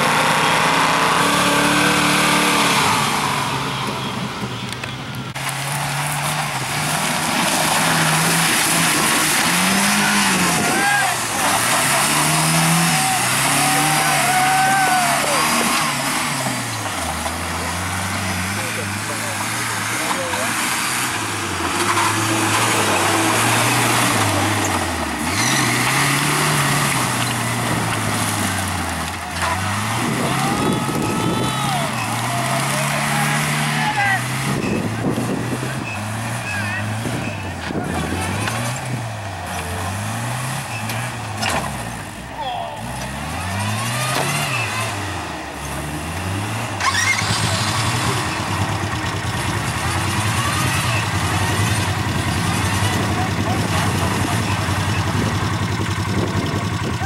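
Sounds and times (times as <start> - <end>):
truck engines revving: 0.0 - 57.0
tyres spinning through mud: 5.3 - 57.0.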